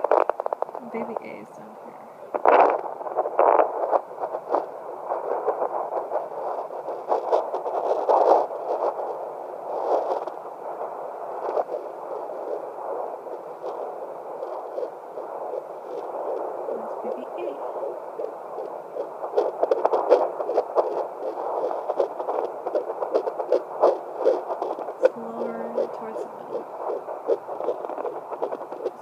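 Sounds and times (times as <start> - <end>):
doppler speaker static hiss: 0.0 - 29.0
scratchy crackles: 0.0 - 29.0.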